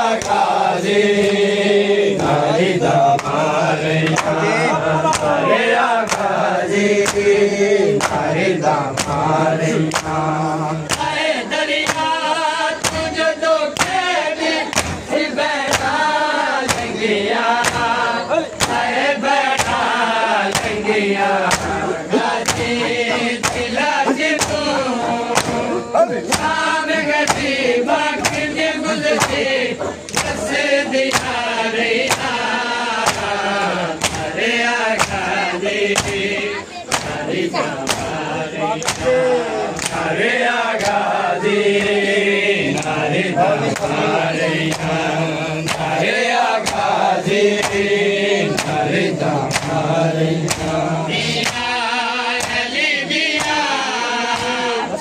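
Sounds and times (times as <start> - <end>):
men chanting in unison: 0.0 - 55.0
hands slapping chests: 0.1 - 0.6, 2.2 - 17.0, 17.6 - 40.1, 40.7 - 54.8.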